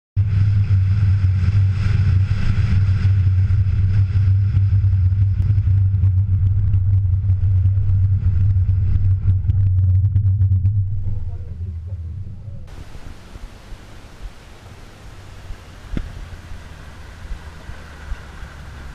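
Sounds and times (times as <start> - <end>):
car driving on gravel road: 0.2 - 18.9
wind: 0.2 - 18.9.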